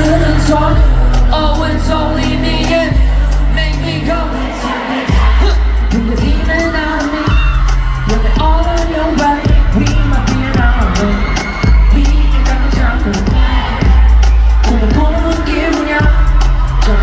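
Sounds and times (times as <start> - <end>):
crowd voices: 0.0 - 17.0
deep bass notes: 0.0 - 17.0
person singing: 0.0 - 17.0
pop music over loudspeakers: 0.0 - 17.0.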